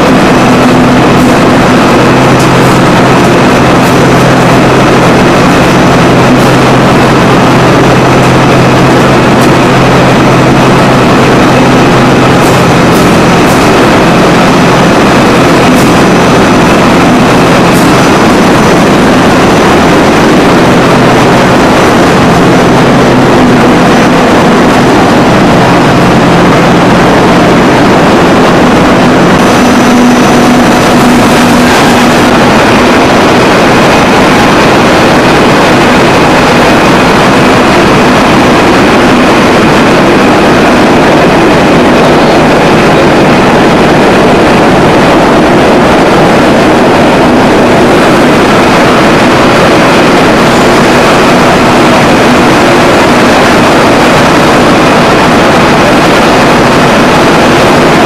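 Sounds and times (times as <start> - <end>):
constant low hum: 0.0 - 58.0
spinning mill machinery drone: 0.0 - 58.0.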